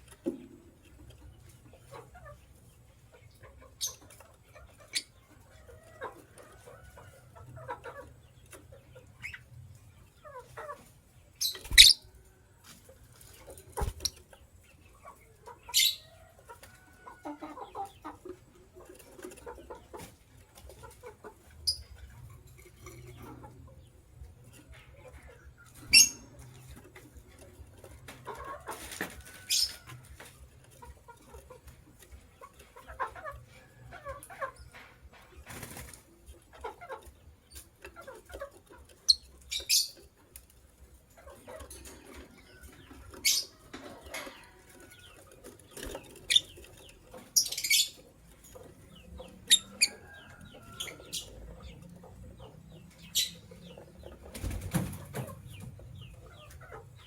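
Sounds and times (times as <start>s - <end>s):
birds chirping: 0.2s - 12.6s, 13.2s - 20.0s, 20.6s - 30.1s, 35.4s - 40.2s, 40.8s - 57.0s.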